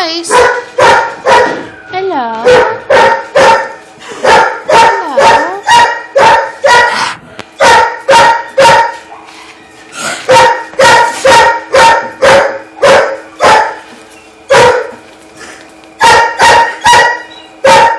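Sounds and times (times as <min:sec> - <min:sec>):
dog barking loudly: 0:00.2 - 0:01.7, 0:02.4 - 0:09.4, 0:10.2 - 0:13.9, 0:14.5 - 0:15.0, 0:16.0 - 0:17.9.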